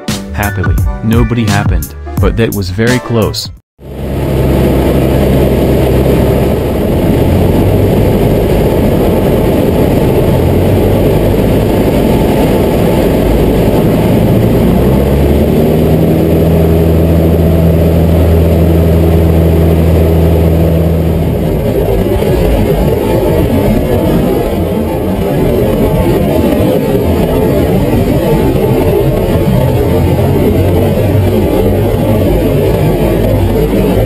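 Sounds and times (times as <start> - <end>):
plane engine and propeller drone: 3.8 - 34.0.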